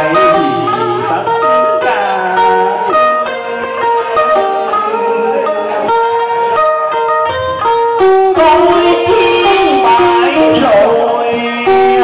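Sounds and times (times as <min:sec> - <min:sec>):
plucked string instrument run: 0:00.0 - 0:12.0.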